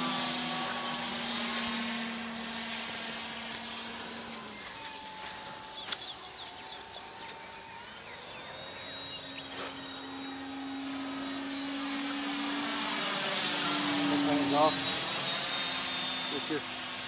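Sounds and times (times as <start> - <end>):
model plane motor droning: 0.0 - 17.0.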